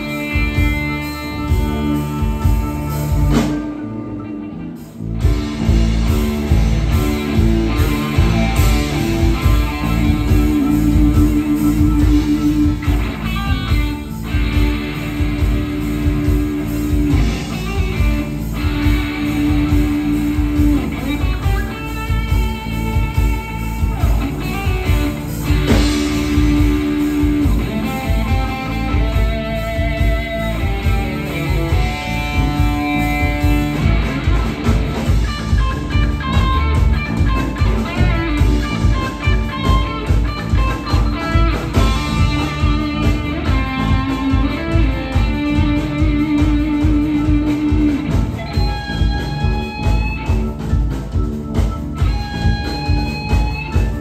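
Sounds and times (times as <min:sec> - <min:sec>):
electric guitar: 0:00.0 - 0:54.0
rock band playing: 0:00.0 - 0:54.0.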